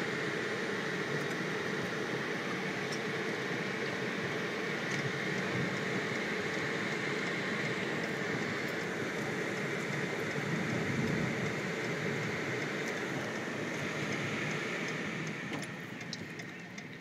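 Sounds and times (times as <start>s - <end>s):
rain rushing on moving car: 0.1s - 17.0s
rain drops ticking on car body: 2.0s - 17.0s.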